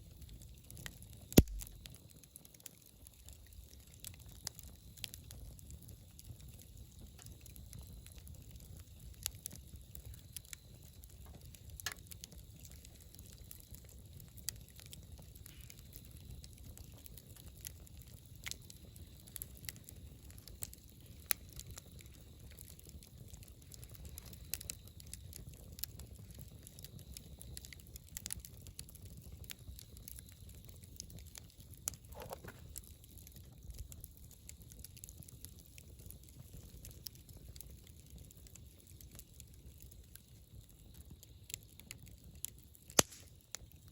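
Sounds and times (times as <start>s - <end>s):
low rumble of flames: 0.0s - 43.9s
wood fire crackling: 0.0s - 43.9s.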